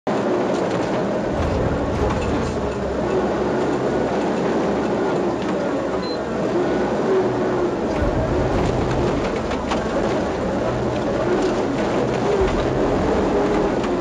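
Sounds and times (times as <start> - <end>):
cab rattling and clattering: 0.5 - 14.0
truck engine rumble: 0.5 - 14.0.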